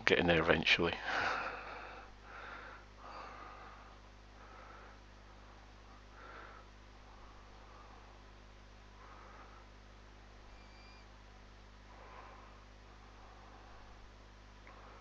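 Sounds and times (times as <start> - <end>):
low electrical hum: 0.0 - 15.0
soft breathing: 1.0 - 11.1, 11.7 - 15.0.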